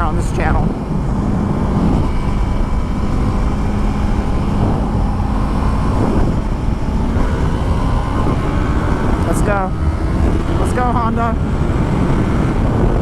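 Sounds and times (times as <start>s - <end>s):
heavy wind rush: 0.0s - 13.0s
motorcycle engine hum: 0.0s - 13.0s.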